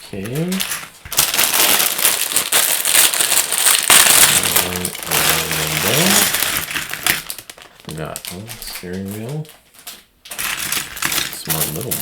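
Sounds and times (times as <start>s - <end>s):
plastic bags tearing and crinkling: 0.1s - 12.0s.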